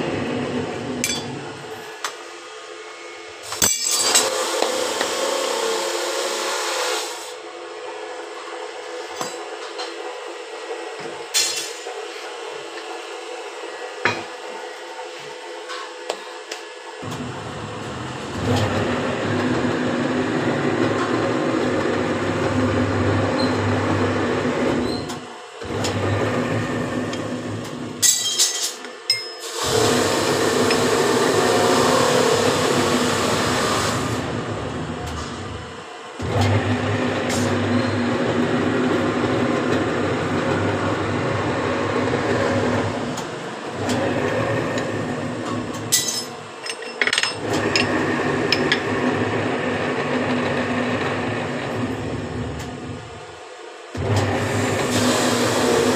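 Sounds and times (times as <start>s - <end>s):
bending machine humming: 0.0s - 55.9s.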